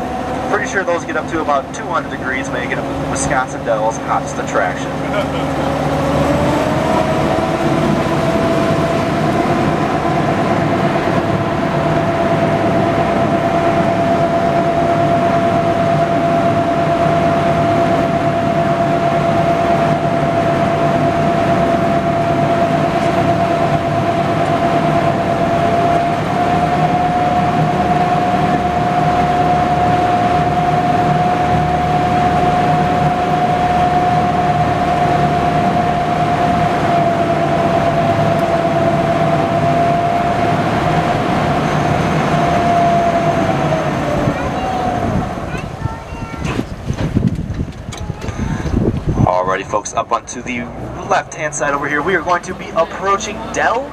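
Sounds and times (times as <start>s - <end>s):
boat engine droning with whine: 0.0s - 53.9s.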